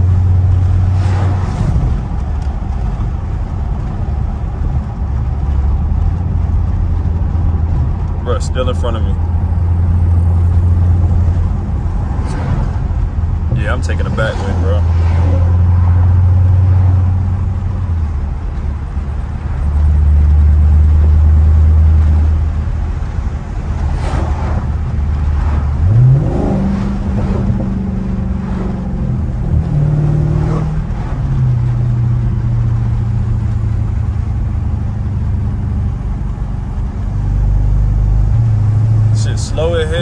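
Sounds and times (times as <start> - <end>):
car engine heard from cabin: 0.0 - 40.0.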